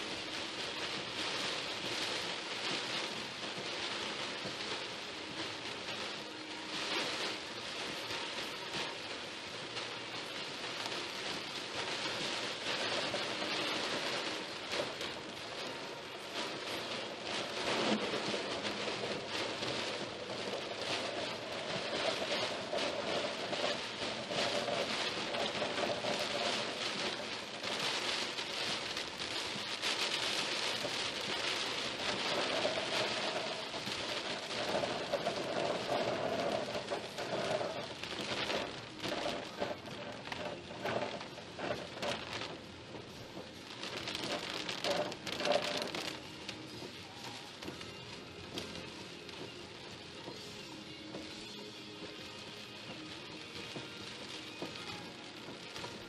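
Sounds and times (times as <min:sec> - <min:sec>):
heavy rain on car windshield: 0:00.0 - 0:56.0.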